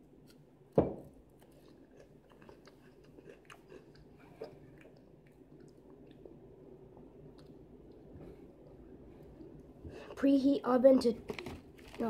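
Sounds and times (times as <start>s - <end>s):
crispy snack being chewed: 1.3s - 10.2s, 10.9s - 12.0s.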